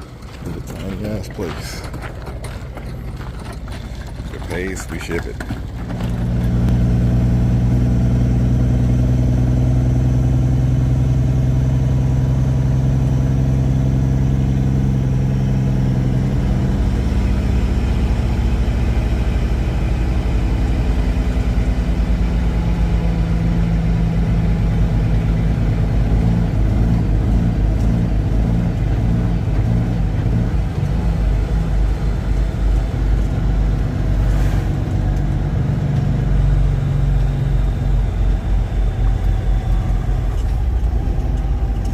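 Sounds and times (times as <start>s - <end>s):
diesel truck engine droning: 0.0s - 41.9s.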